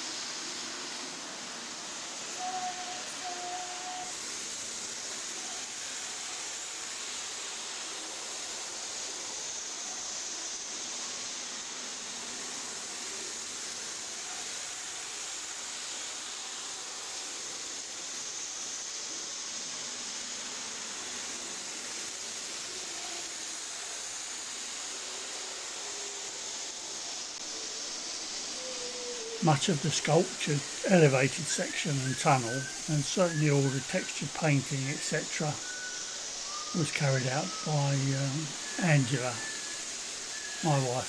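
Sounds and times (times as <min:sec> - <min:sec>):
steady high hiss: 0:00.0 - 0:41.0.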